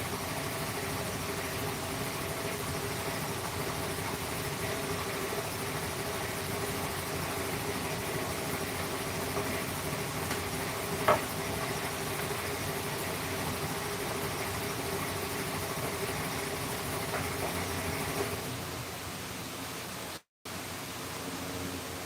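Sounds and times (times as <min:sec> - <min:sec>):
motor running with hum: 0:00.0 - 0:20.1.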